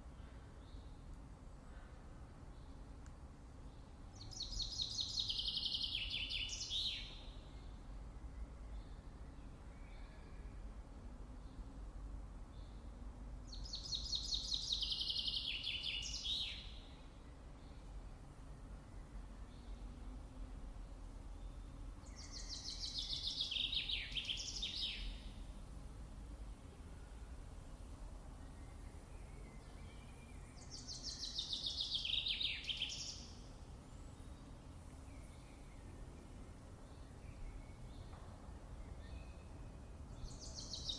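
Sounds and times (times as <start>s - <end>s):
faint steady background noise: 0.0s - 40.9s
songbird singing: 0.0s - 40.9s.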